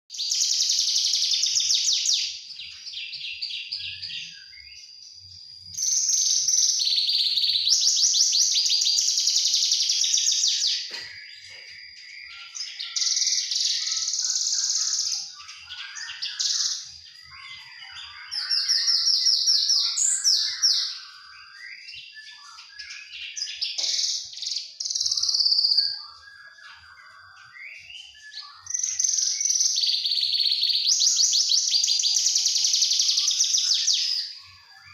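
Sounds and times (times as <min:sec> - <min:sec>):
bird twittering: 0:00.1 - 0:34.9.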